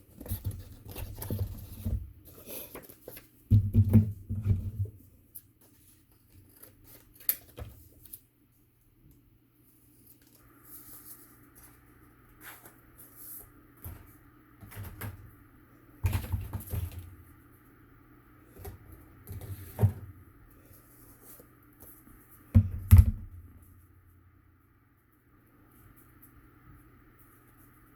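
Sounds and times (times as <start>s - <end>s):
faint high hum: 4.4s - 27.9s.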